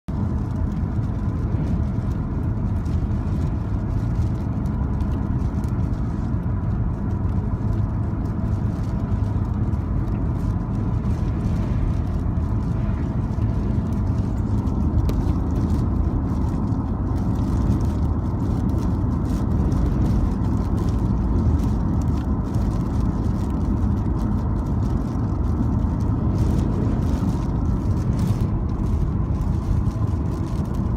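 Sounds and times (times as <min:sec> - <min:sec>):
car engine and tyre rumble: 0:00.0 - 0:30.9.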